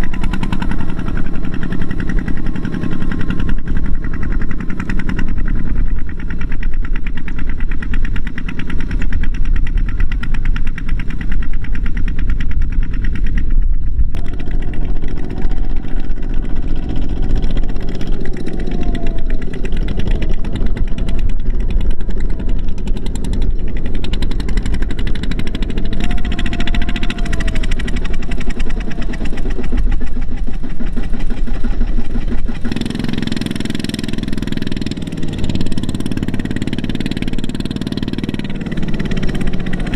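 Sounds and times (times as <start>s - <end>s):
diesel engines chugging: 0.0s - 39.9s.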